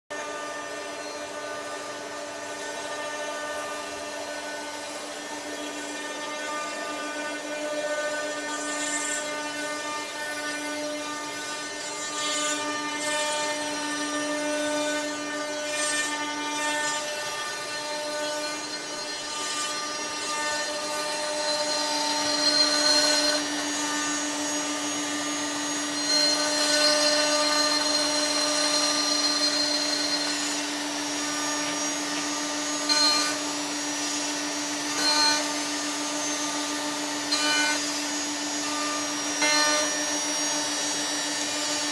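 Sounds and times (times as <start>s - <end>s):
router spindle tone: 0.2s - 41.9s
cutter rasping wood: 0.6s - 41.9s.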